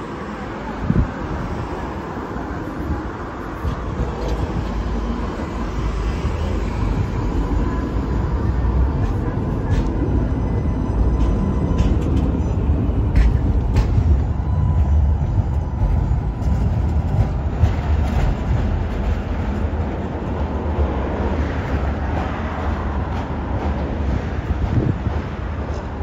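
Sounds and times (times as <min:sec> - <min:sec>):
tram rumbling past: 0:00.0 - 0:26.0.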